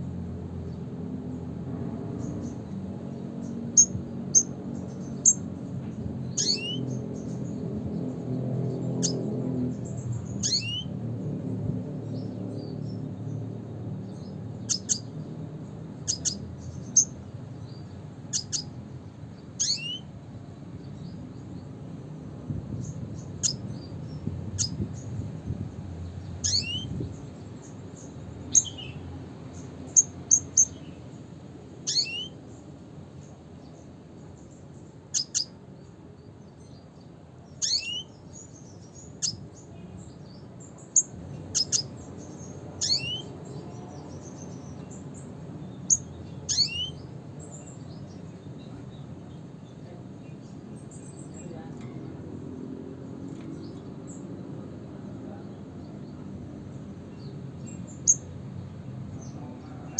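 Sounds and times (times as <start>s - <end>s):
low background hum: 0.0s - 59.7s
bird chirping calls: 2.0s - 21.8s, 22.5s - 59.9s.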